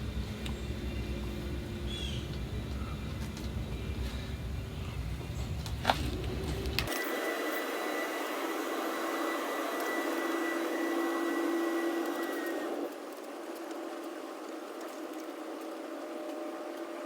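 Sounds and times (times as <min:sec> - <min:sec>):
electric oil pump whirring: 0:00.0 - 0:17.0.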